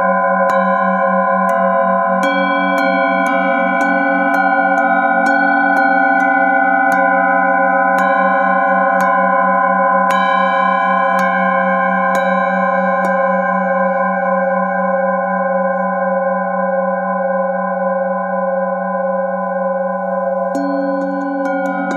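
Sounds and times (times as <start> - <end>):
singing bowl ringing: 0.0 - 21.9.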